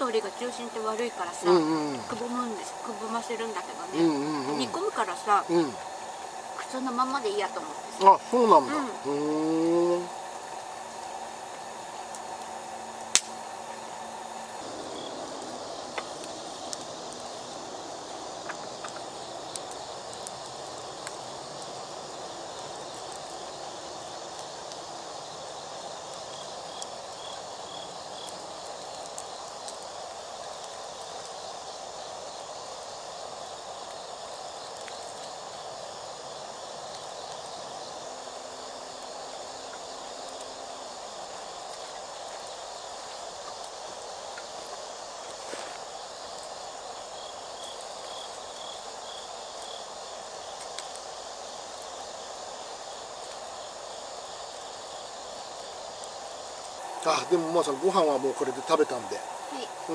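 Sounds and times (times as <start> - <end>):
night insects chirping: 0.0 - 59.9
wood fire popping and clicking: 0.0 - 59.9.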